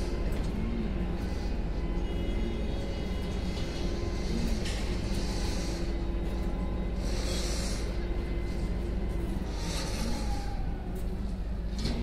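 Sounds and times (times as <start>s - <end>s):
machinery engine drone: 0.0s - 12.0s.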